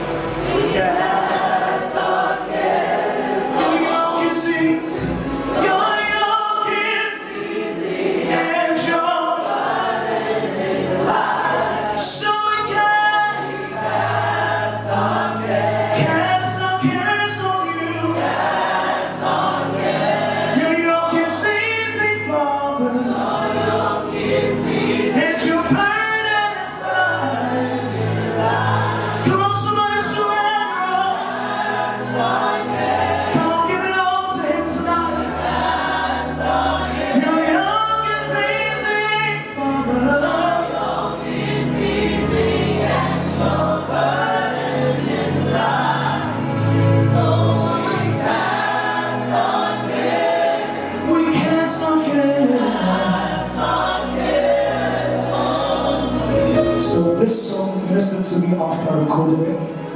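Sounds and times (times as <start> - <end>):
gospel choir singing with band: 0.0 - 59.9.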